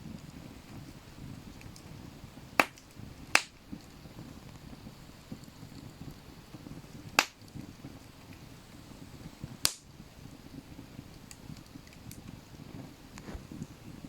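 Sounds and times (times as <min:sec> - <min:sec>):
campfire wood crackling: 0:00.0 - 0:14.0
sharp loud fire pops: 0:00.8 - 0:12.9.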